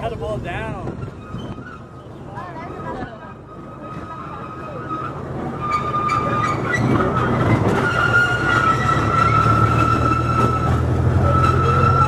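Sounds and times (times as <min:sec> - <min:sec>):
train rumble: 0:00.0 - 0:12.0
train wheels squealing: 0:01.0 - 0:12.0.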